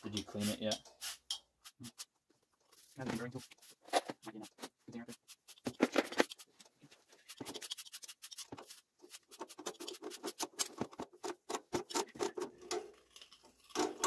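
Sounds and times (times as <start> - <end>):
tools scratching on metal piping: 0.0 - 14.0.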